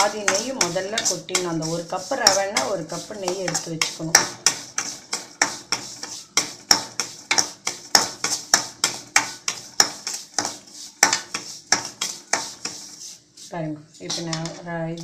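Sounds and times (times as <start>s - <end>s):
spoon scraping metal pan: 0.0s - 15.0s.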